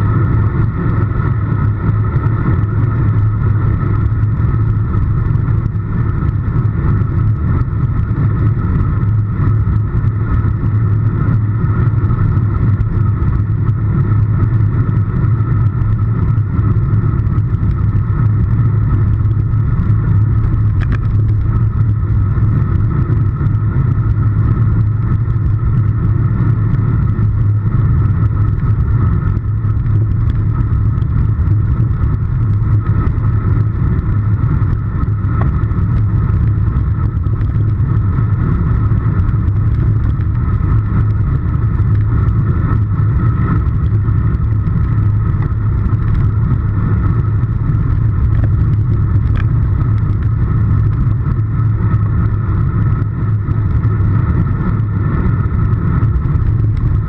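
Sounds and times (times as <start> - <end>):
road noise: 0.0 - 57.0
wind rumble: 0.0 - 57.0.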